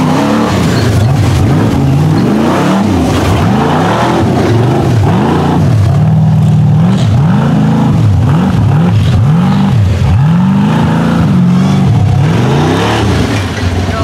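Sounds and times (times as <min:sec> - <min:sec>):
truck engine revving hard: 0:00.0 - 0:14.0.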